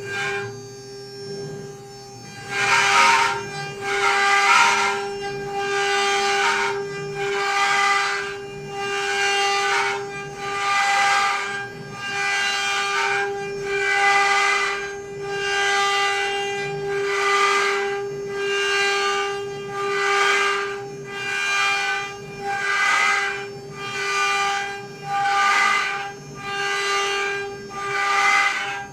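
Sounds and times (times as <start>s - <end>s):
cnc router spindle cutting: 0.0s - 28.9s.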